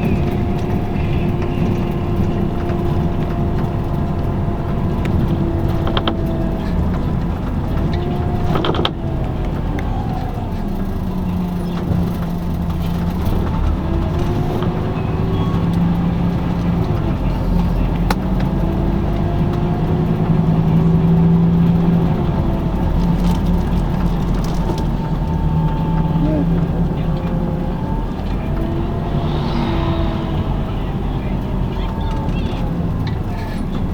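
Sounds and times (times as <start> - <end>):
bus engine hum and whine: 0.0 - 33.9.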